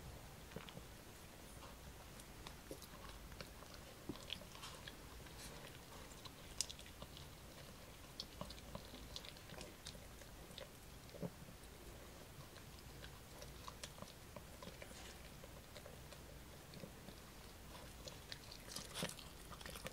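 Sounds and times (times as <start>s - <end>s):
dog chewing crunchy treat: 0.4s - 19.9s.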